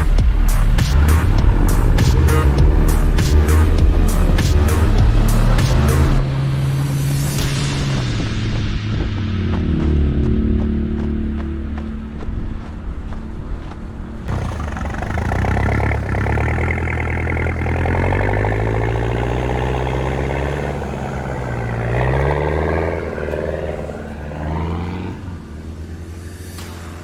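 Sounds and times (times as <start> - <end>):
rally car engine revving: 0.0 - 10.0, 14.2 - 27.0.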